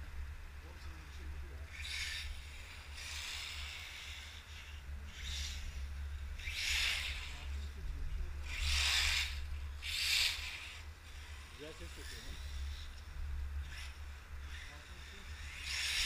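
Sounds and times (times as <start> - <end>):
remote control car passing: 0.0 - 16.0
steady low hum: 0.0 - 16.0.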